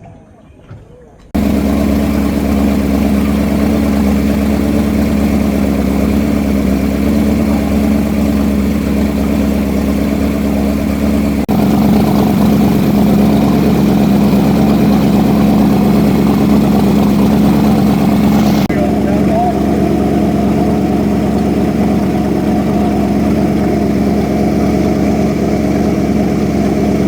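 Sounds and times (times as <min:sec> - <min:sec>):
boat engine droning: 0:01.4 - 0:27.0.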